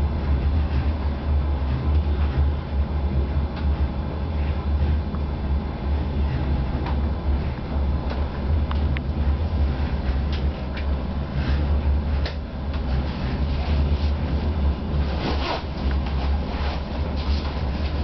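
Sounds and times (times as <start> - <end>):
diesel engine drone: 0.0 - 18.0
wheel-on-rail rumble: 0.0 - 18.0.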